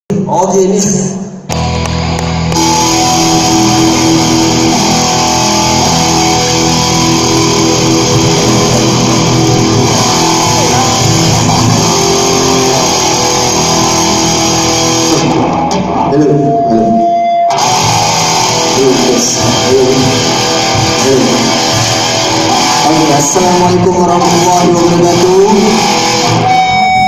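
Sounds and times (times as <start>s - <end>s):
electric guitar ringing notes: 1.5s - 27.0s
low drone: 2.5s - 27.0s.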